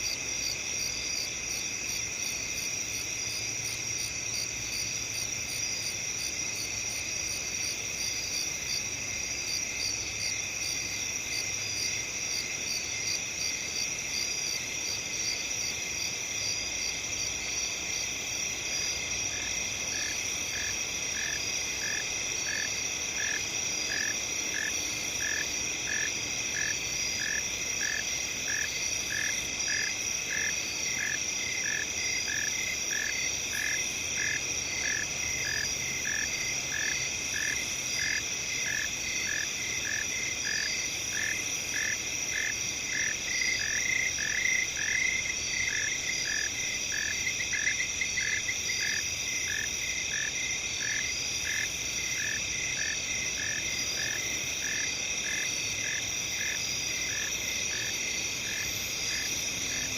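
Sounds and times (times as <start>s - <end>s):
insects chirping in fast pulses: 0.0s - 59.9s
insects trilling: 0.0s - 59.9s
low repeating insect call: 0.0s - 59.9s.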